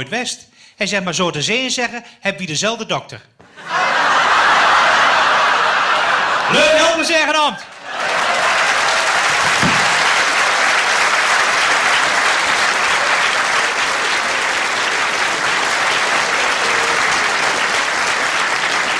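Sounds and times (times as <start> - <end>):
audience applauding: 3.6 - 18.9.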